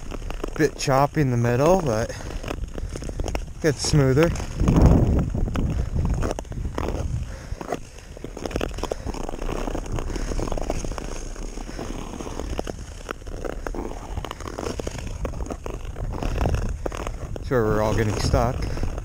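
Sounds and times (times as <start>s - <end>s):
tyres crunching over ice: 0.0s - 19.0s.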